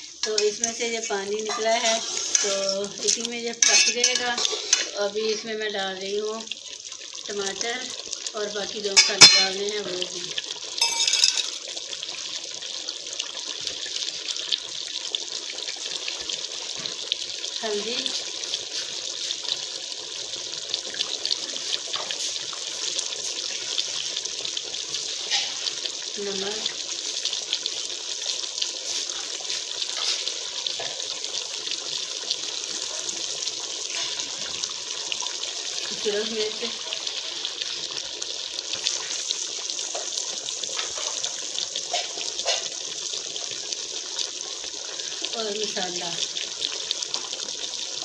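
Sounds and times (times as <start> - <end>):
chicken sizzling in a pot: 0.0 - 48.0.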